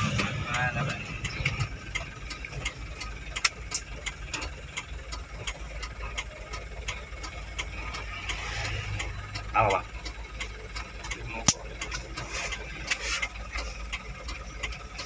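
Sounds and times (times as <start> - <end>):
truck engine rumbling: 0.0 - 15.0
quick regular ticking: 0.1 - 15.0.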